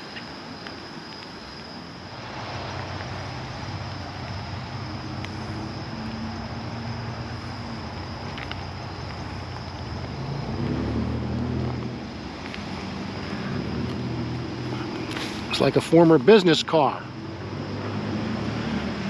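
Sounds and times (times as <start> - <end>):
steady hiss: 0.0 - 19.0
vehicle engine running: 2.2 - 19.0.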